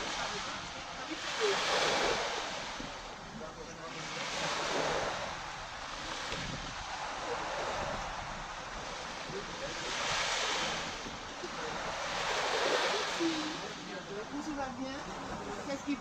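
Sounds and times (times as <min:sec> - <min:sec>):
small waves breaking on sand: 0:00.0 - 0:16.0.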